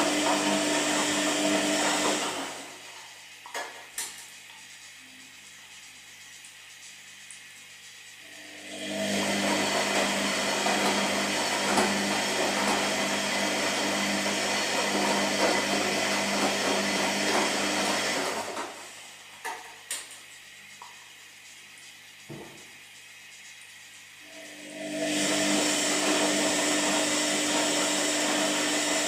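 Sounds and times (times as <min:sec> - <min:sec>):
washing machine whirring: 0:00.0 - 0:29.0.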